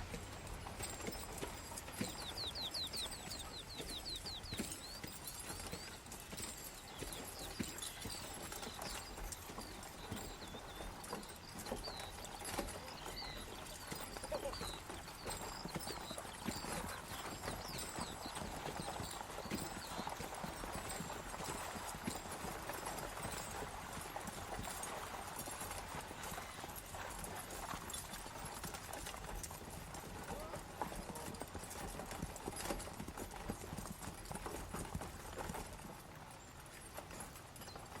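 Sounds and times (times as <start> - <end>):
horse hooves clip-clopping: 0.0 - 38.0.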